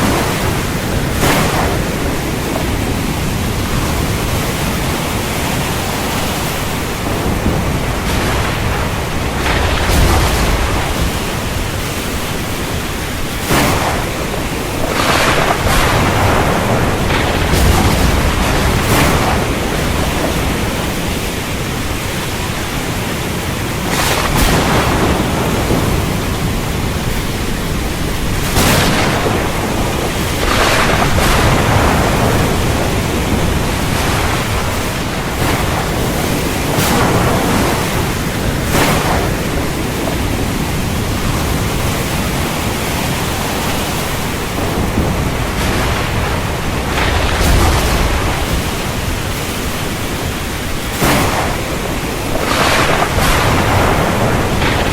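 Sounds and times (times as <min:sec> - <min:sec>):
heavy rain pouring: 0:00.0 - 0:54.9
low rumbling thunder: 0:00.0 - 0:54.9.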